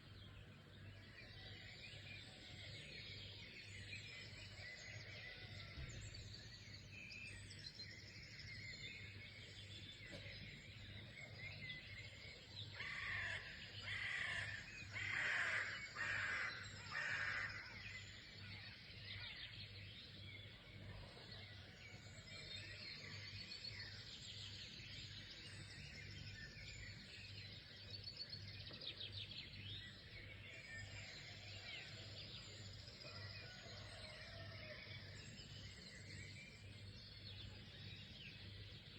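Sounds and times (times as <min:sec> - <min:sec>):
birds chirping and singing: 0:00.5 - 0:38.9.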